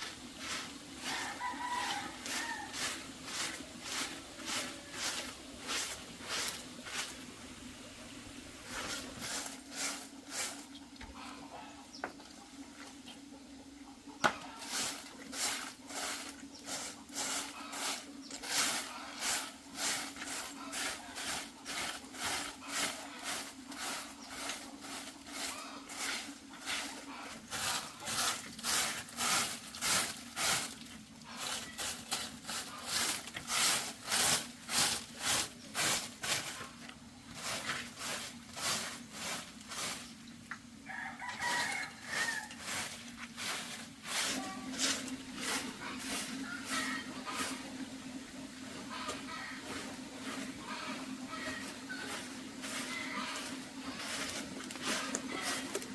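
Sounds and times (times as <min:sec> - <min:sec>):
hand saw cutting wood: 0:00.0 - 0:07.2, 0:08.7 - 0:10.7, 0:14.3 - 0:36.8, 0:41.4 - 0:47.7, 0:49.0 - 0:55.9.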